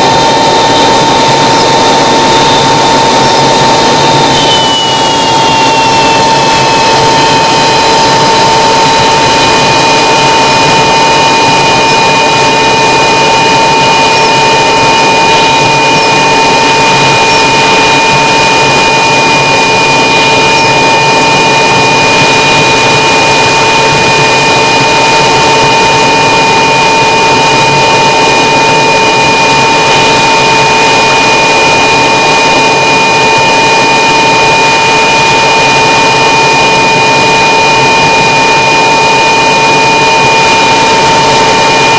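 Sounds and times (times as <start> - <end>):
propeller aircraft engine drone: 0.0 - 41.9
steady high whine: 0.0 - 41.9.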